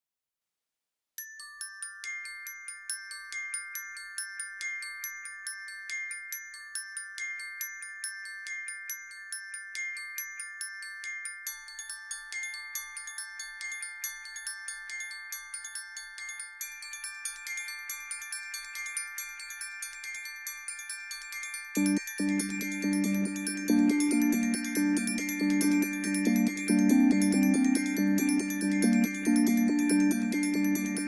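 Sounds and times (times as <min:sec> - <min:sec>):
ringing mallet melody: 0:01.2 - 0:31.0.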